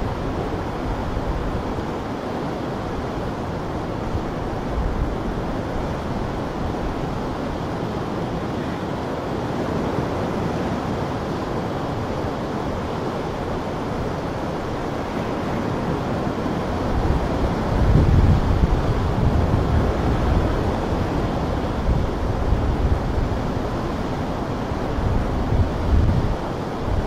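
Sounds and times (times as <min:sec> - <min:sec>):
ocean surf breaking on rocks: 0:00.0 - 0:27.0
wind buffeting microphone: 0:00.0 - 0:27.0.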